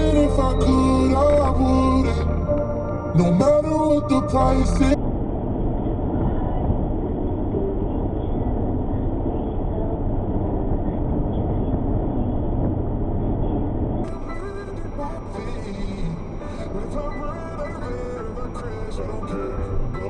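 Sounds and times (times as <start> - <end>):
car road noise inside cabin: 0.0 - 20.0.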